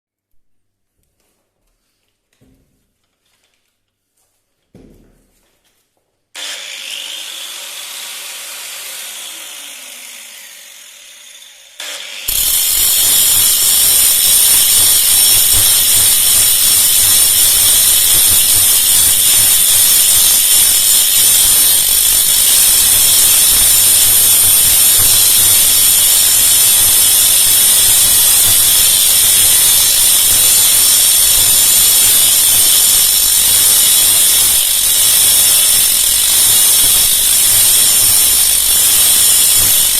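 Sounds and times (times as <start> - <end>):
power tool working metal: 6.4 - 39.9.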